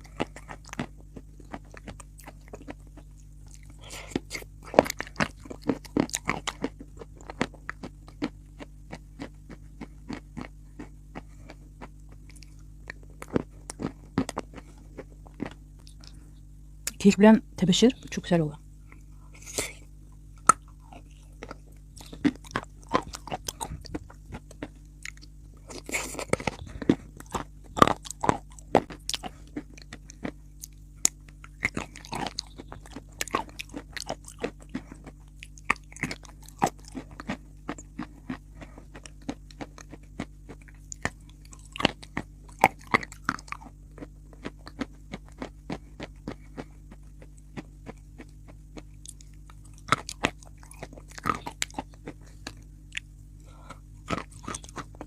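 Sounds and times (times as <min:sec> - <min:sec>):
chalk crunching while chewing: 0:00.0 - 0:16.3, 0:18.9 - 0:55.0
faint low hum: 0:00.0 - 0:55.0.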